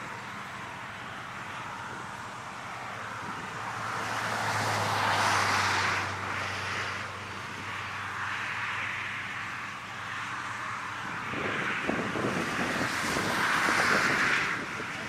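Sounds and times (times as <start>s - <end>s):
distant vehicle passing: 0.0s - 15.0s.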